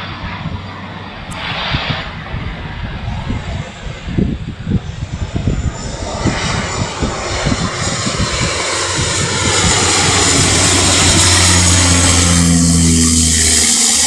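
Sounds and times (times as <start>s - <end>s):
aircraft engines roaring: 0.0s - 14.0s.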